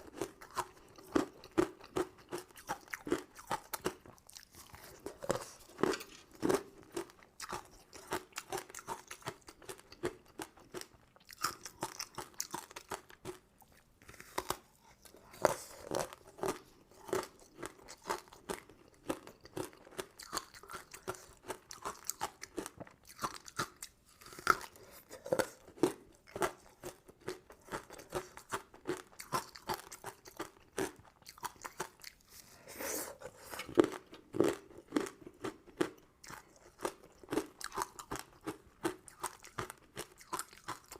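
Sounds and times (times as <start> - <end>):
crunchy candy being chewed: 0.0 - 40.9.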